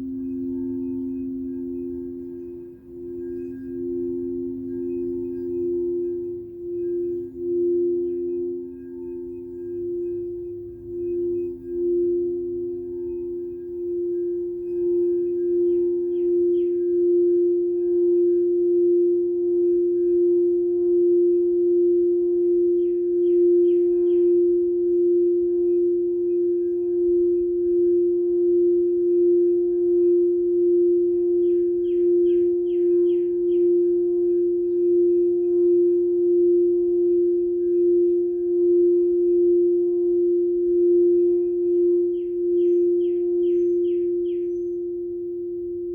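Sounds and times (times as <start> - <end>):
bird chirping: 0.0 - 45.9
singing bowl tone: 0.0 - 45.9.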